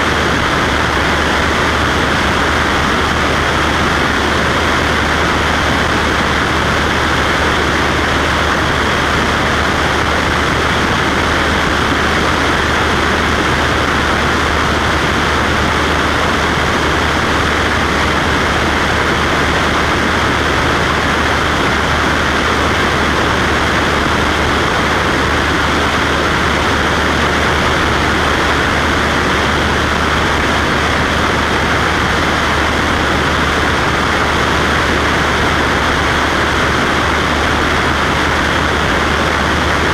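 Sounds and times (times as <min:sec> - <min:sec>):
propeller plane engine humming: 0:00.0 - 0:39.9.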